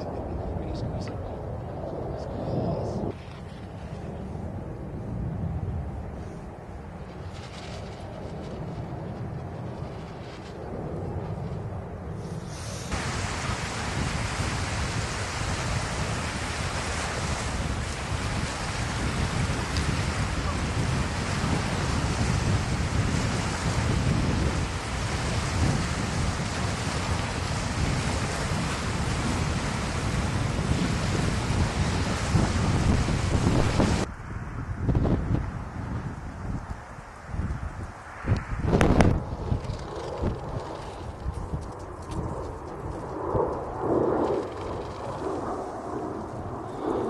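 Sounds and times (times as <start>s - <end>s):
strong wind on microphone: 0.0s - 47.0s.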